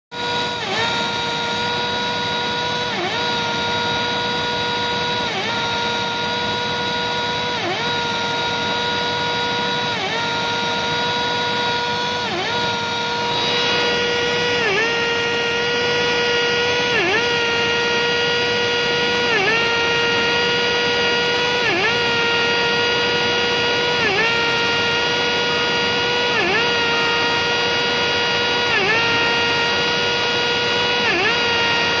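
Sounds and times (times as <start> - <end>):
metal cutting noise: 0.1 - 32.0
motor whine: 0.1 - 32.0.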